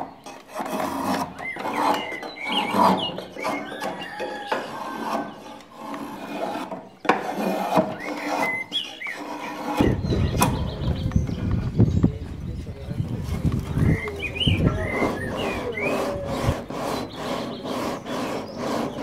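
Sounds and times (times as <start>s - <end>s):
blade shaving wood: 0.0s - 10.8s, 12.9s - 19.0s.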